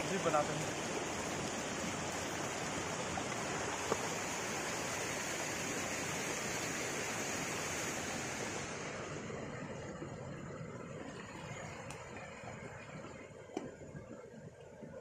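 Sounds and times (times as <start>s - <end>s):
stream running over stones: 0.0s - 15.0s.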